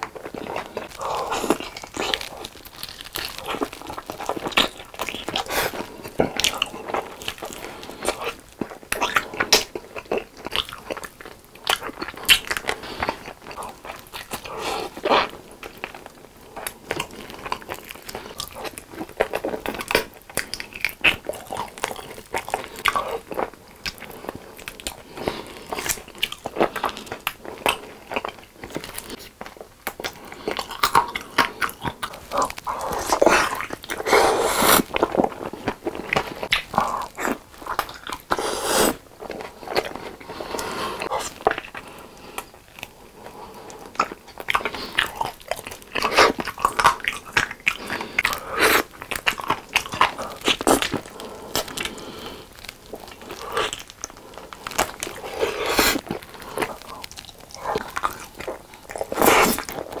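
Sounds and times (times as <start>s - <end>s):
crunchy bites: 0.0s - 16.0s, 16.6s - 60.0s
wet sticky chewing: 0.0s - 60.0s.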